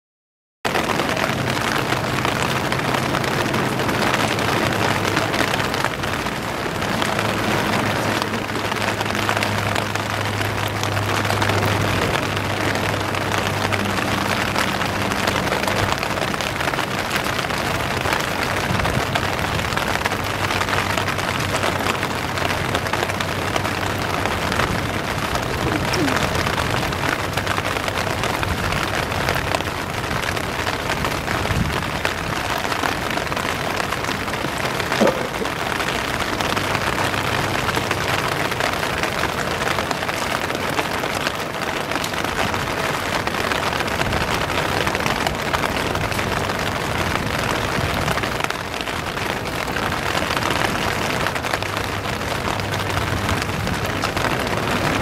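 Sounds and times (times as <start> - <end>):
rain: 0.6 - 55.0
stormy surf: 0.7 - 55.0.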